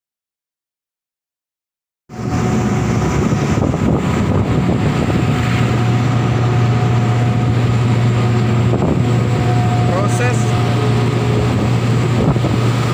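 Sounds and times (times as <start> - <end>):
heavy diesel machinery droning: 2.1 - 12.9.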